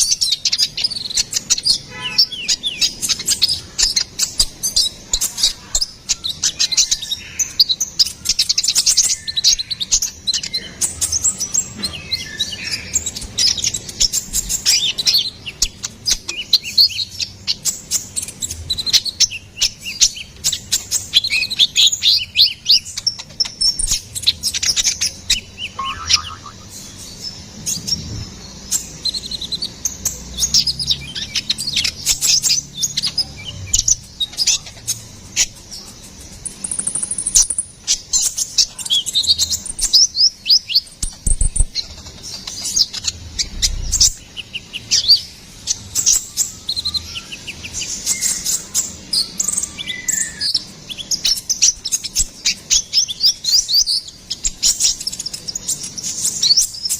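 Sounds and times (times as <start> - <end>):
sunbird singing high chirps: 0.0 - 56.9.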